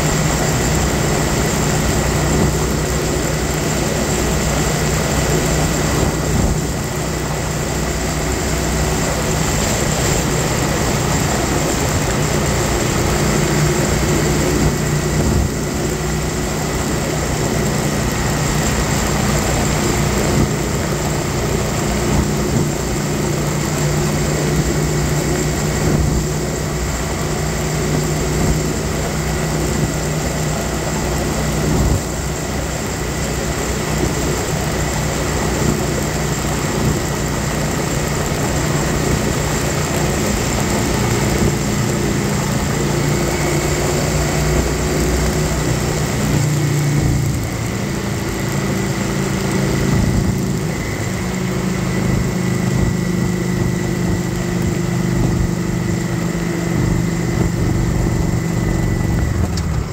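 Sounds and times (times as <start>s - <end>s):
wind noise on microphone: 0.0s - 48.1s, 49.2s - 59.9s
motorcycle engine running: 0.0s - 59.9s.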